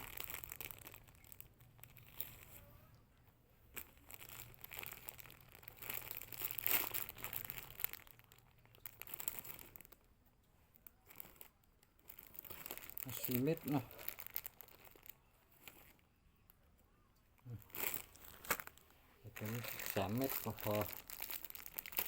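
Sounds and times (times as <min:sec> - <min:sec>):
crinkling and rustling peppers: 0:00.0 - 0:22.0.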